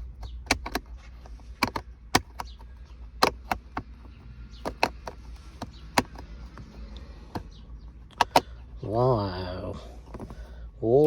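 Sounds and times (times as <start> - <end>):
plastic and metal parts clicking: 0.0 - 8.9.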